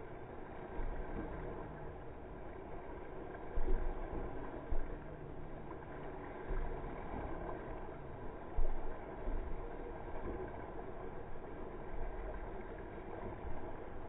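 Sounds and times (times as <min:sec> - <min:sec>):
paddles splashing: 0:00.0 - 0:14.0
water rushing along a boat: 0:00.0 - 0:14.0.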